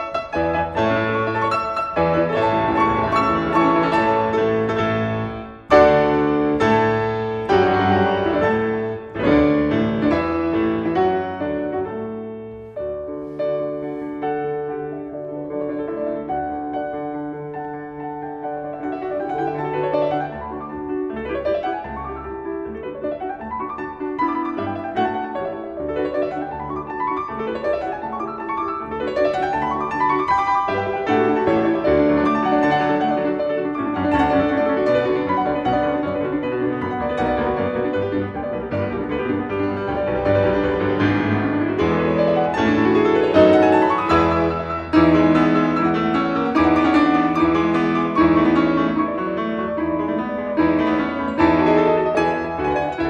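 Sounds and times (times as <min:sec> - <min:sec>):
classical piano music: 0:00.0 - 0:53.0.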